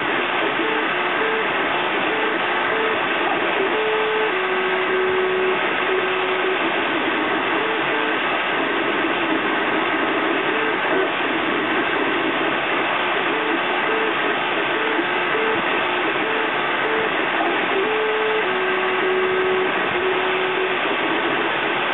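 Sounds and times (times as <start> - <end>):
fan hiss: 0.0 - 21.9
stepper motors singing notes: 0.3 - 9.5, 10.2 - 21.2.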